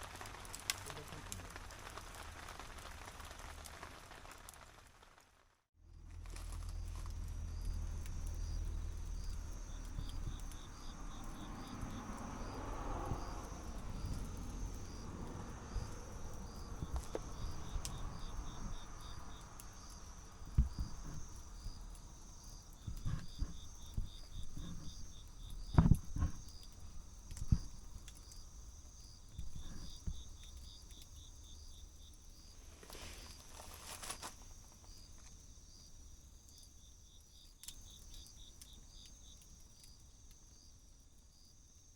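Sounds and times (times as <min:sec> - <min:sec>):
insects chirping in pulses: 0:06.7 - 0:41.9.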